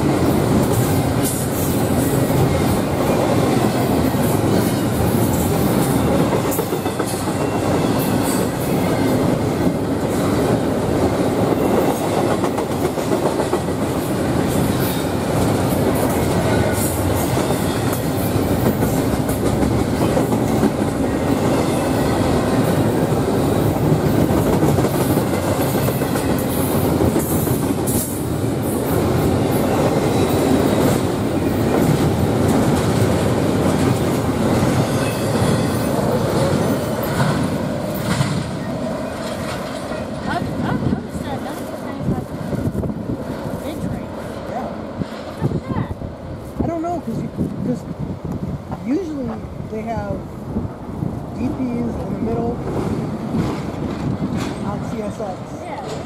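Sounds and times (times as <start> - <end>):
rumble of train wheels on rails: 0.0 - 56.0.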